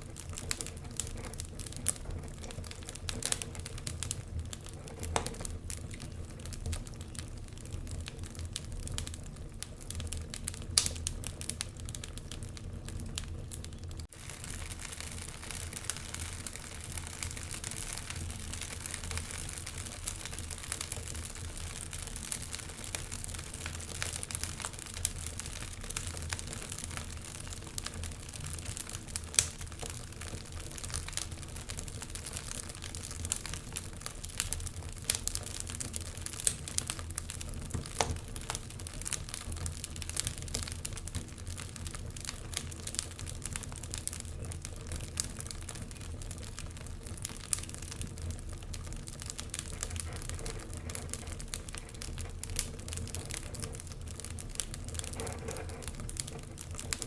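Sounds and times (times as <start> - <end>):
wood fire crackling: 0.0 - 57.0
sharp fire pops: 7.7 - 46.5, 49.1 - 57.0.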